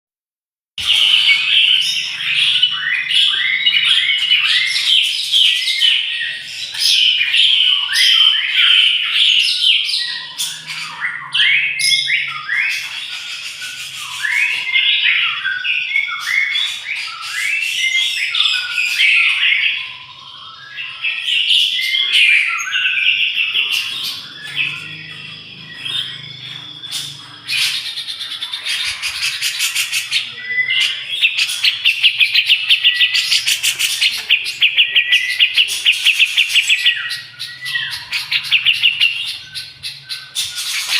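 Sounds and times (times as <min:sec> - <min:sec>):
songbird singing: 0:00.8 - 0:40.9.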